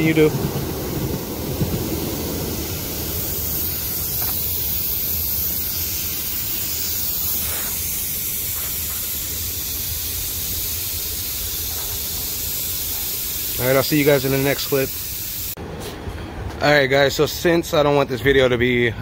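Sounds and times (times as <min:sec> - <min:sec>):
compressed air hissing: 0:00.0 - 0:15.6.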